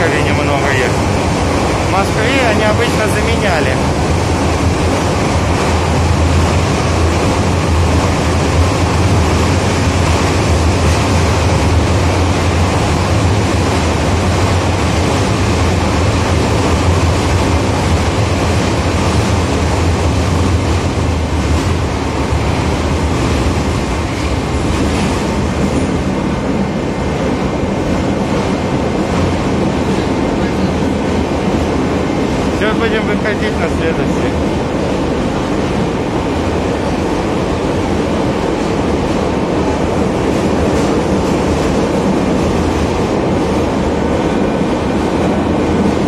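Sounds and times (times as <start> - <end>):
wheels rumbling on rails: 0.0 - 46.0.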